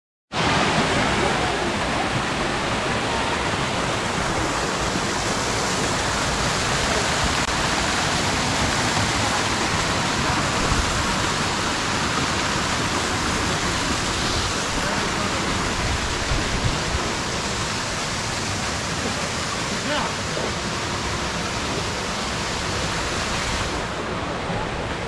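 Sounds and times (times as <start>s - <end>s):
waterfall rushing over rocks: 0.3s - 25.0s.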